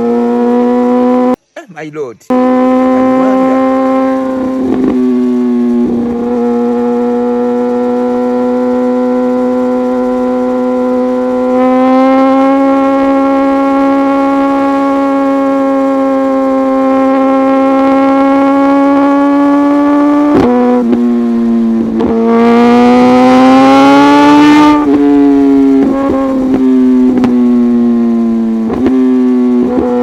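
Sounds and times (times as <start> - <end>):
motorcycle engine at high revs: 0.0 - 1.4, 2.3 - 30.0.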